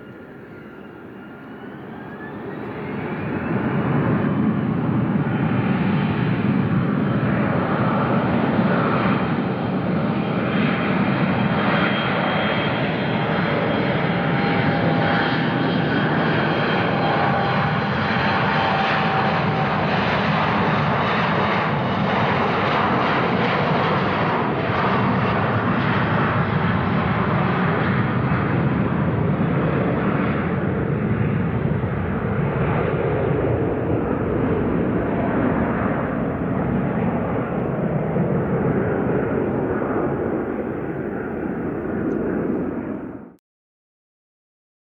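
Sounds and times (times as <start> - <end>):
jet airliner taking off: 0.0 - 43.4.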